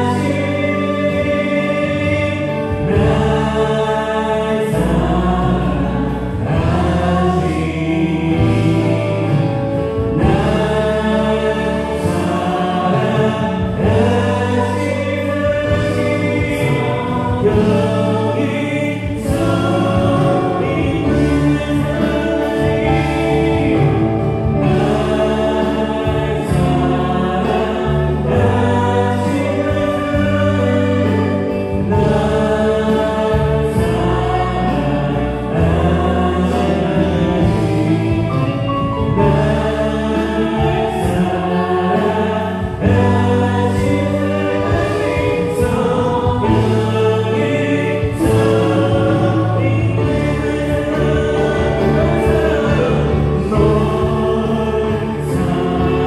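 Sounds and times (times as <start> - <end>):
drums: 0.0 - 56.0
electric bass: 0.0 - 56.0
group of singers: 0.0 - 56.0
keyboard: 0.0 - 56.0.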